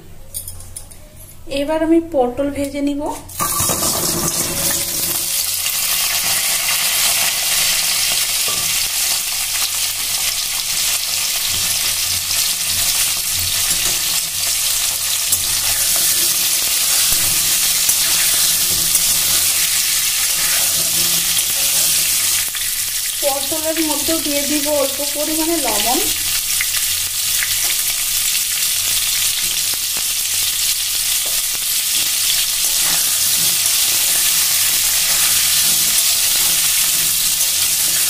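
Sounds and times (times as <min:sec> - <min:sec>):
vegetables sizzling in hot oil: 0:03.4 - 0:38.0.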